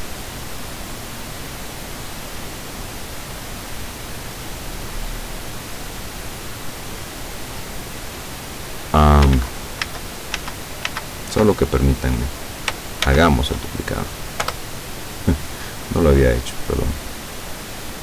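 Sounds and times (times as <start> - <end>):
microphone recording hiss: 0.0 - 18.0.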